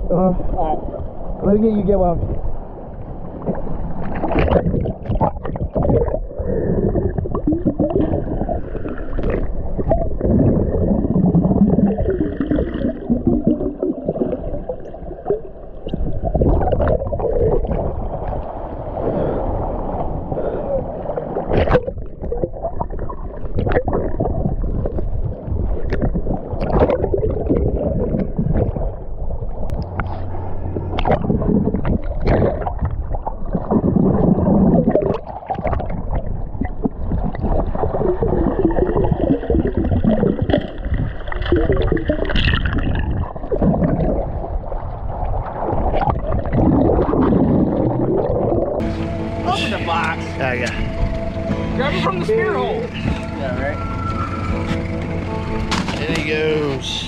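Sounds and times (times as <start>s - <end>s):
underwater sloshing and gurgling: 0.0s - 57.0s.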